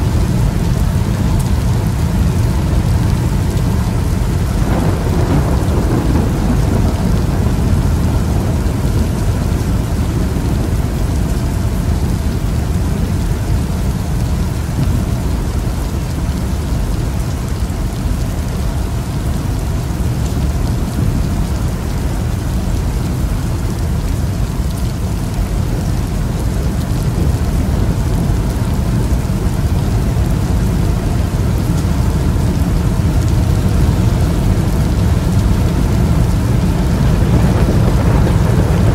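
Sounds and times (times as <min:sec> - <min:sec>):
deep rumble: 0:00.0 - 0:38.9
rain heard inside a car: 0:00.0 - 0:38.9.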